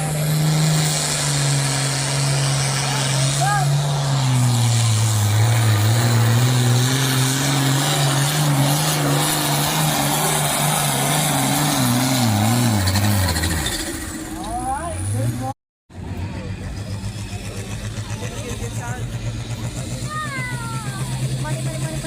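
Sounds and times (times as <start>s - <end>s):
pulling vehicle engine running hard: 0.0s - 22.0s.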